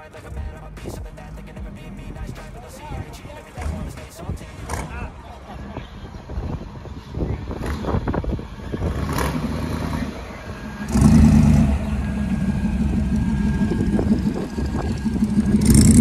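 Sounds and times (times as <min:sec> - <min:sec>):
car engine rumbling and revving: 0:00.0 - 0:16.0.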